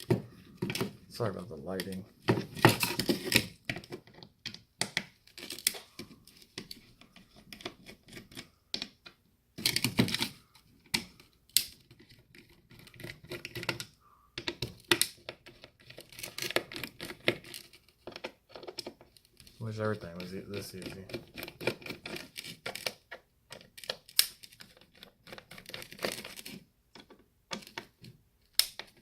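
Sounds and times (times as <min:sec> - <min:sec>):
clatter of small parts: 0:01.9 - 0:29.0
screwdriver clicks and scratching: 0:02.6 - 0:29.0.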